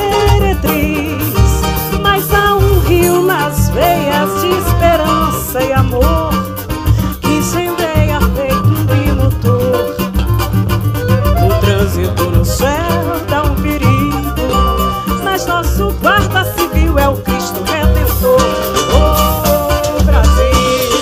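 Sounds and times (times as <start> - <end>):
woman singing into a microphone: 0.0 - 10.3, 11.4 - 21.0
acoustic guitar: 0.0 - 21.0
cavaquinho: 0.0 - 21.0
drum kit: 0.0 - 21.0
electric bass: 0.0 - 21.0
hand drums: 0.0 - 21.0.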